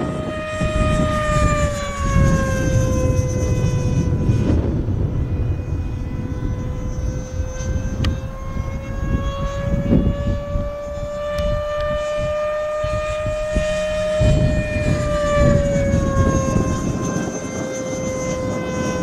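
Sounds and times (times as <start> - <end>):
electric ducted fan whining: 0.0 - 19.0.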